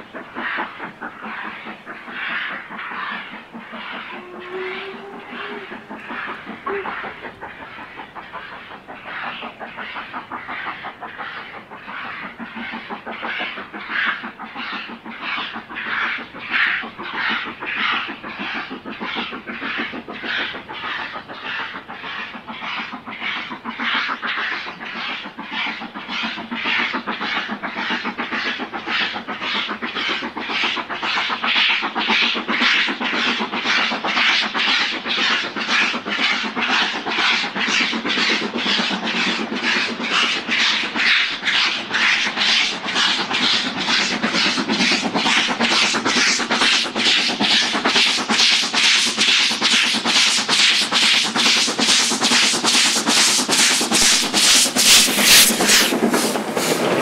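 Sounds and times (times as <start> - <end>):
steam locomotive exhaust beating: 0.0 - 57.0.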